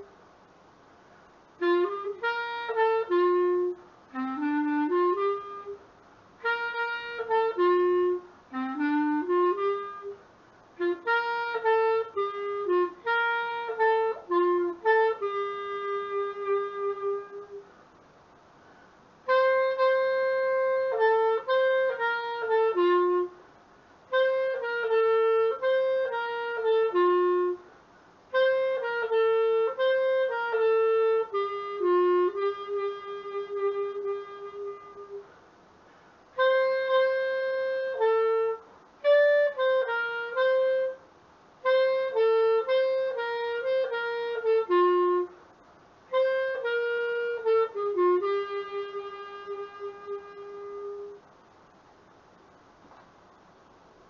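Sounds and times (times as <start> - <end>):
solo clarinet melody: 0.0 - 0.2, 1.6 - 17.9, 19.2 - 51.3.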